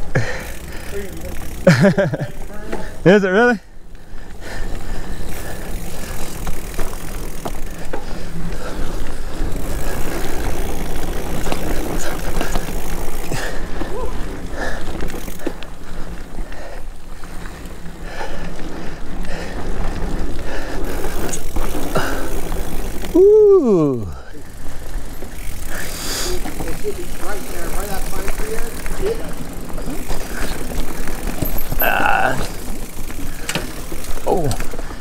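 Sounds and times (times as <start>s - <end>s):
bike clicking and rattling: 0.0s - 35.0s
mountain bike tyres on dirt: 0.0s - 35.0s.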